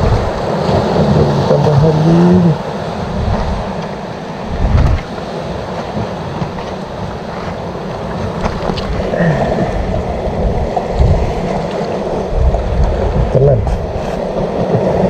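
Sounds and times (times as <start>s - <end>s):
sea waves washing on rocks: 0.0s - 15.0s
wind buffeting microphone: 0.0s - 15.0s.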